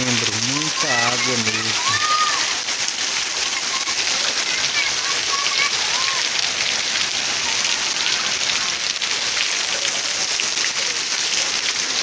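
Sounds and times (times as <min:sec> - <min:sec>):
heavy rain splashing into water: 0:00.0 - 0:12.0.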